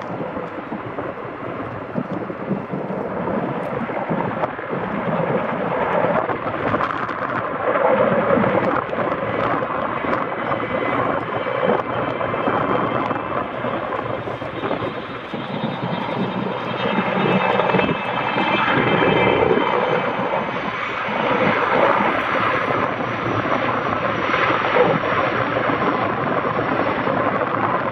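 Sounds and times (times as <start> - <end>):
helicopter rotor and engine rumble: 0.0 - 27.9.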